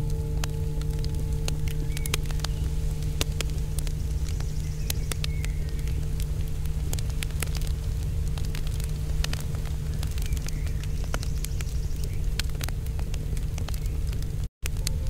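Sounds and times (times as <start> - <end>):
faint steady hum: 0.0 - 15.0
fire crackling and popping: 0.0 - 15.0
low rumble: 0.0 - 15.0.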